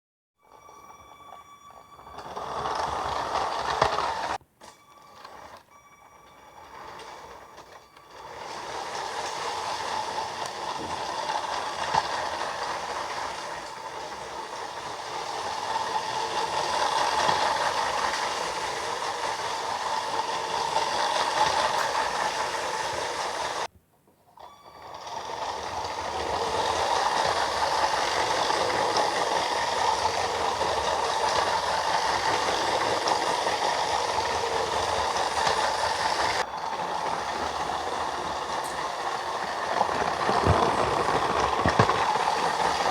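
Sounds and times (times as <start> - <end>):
toy train whirring rattle: 0.4 - 23.7, 24.3 - 42.9.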